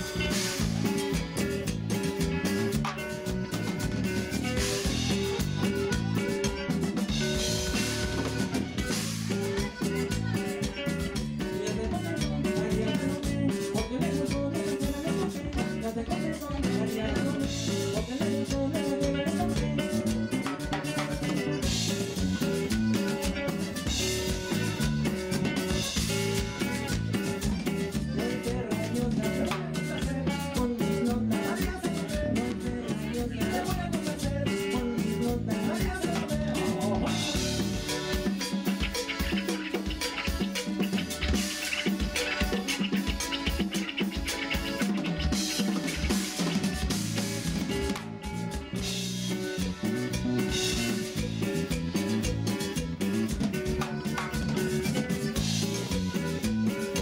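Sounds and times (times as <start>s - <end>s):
drum kit beat: 0.0s - 57.0s
upbeat band song: 0.0s - 57.0s.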